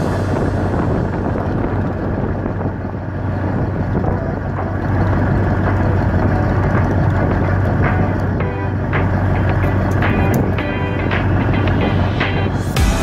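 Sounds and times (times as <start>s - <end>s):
boat engine humming: 0.0s - 13.0s
wind: 0.0s - 13.0s.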